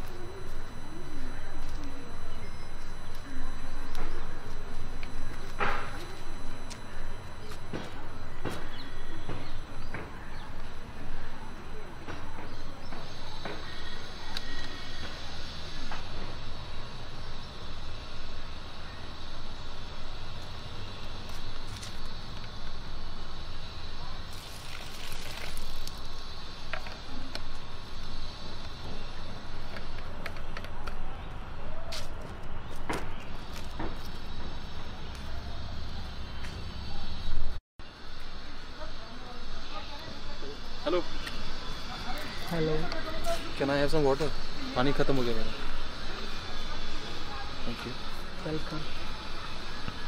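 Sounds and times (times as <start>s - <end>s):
distant road traffic rumble: 0.0s - 50.0s.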